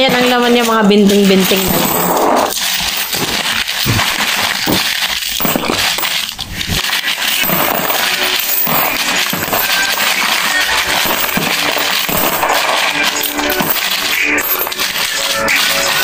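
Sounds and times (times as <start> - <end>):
coins rattling and clinking: 0.0 - 16.0.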